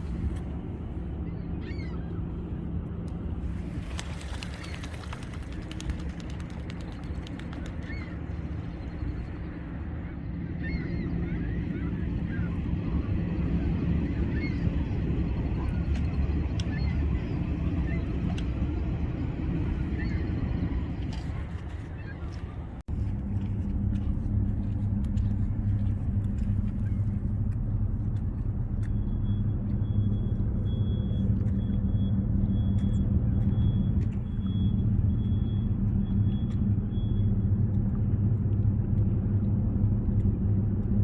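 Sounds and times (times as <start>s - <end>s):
low engine drone: 0.0s - 41.0s.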